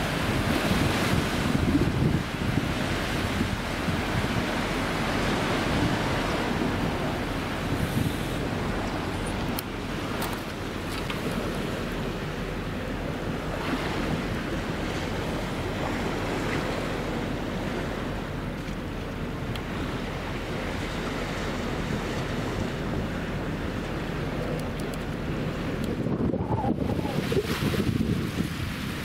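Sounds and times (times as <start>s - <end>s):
wind on microphone: 0.0s - 18.6s, 19.2s - 29.0s
sea water washing: 0.0s - 29.0s.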